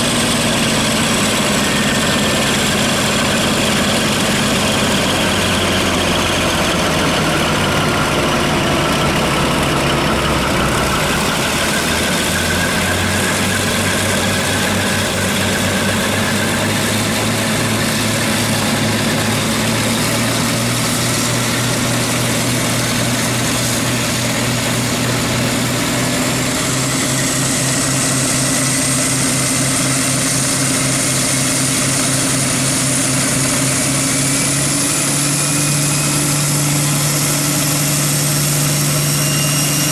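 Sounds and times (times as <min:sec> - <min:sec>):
high whine: 0:00.0 - 0:39.9
locomotive diesel engines running: 0:00.0 - 0:39.9.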